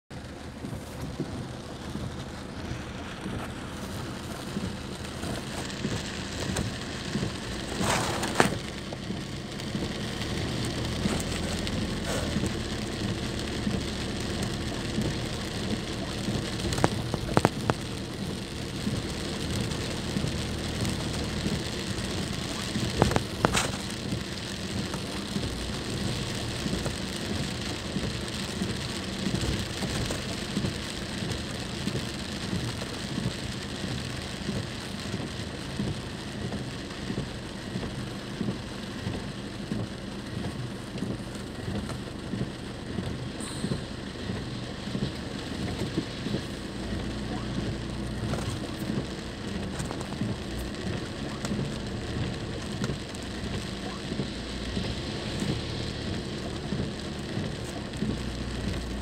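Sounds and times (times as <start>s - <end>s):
car road noise on wet road: 0.0s - 59.0s.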